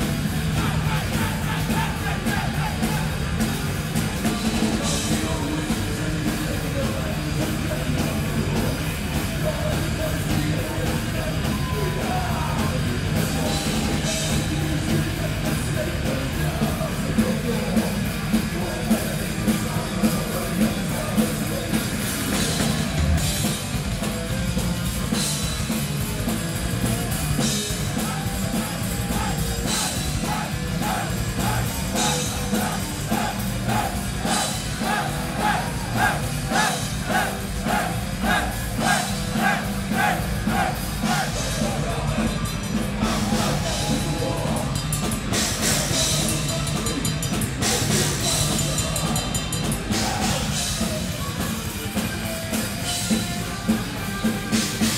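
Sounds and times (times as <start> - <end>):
thrash metal band playing live: 0.0 - 54.9
vocals: 0.0 - 54.9.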